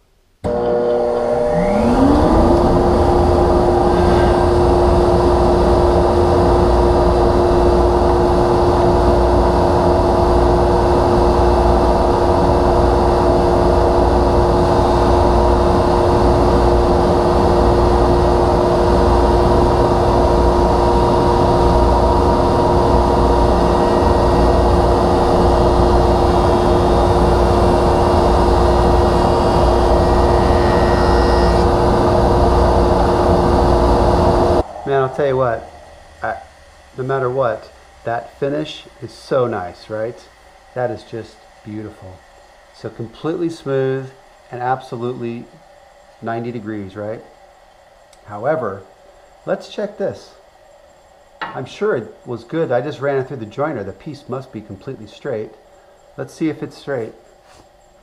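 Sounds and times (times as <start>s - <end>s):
jointer humming: 0.4s - 57.5s.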